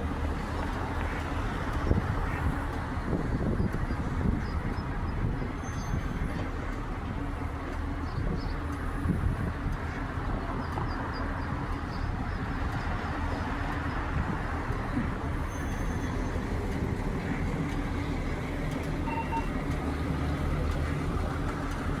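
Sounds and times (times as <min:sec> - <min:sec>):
street noise: 0:00.0 - 0:22.0
vehicle engine running: 0:00.0 - 0:22.0.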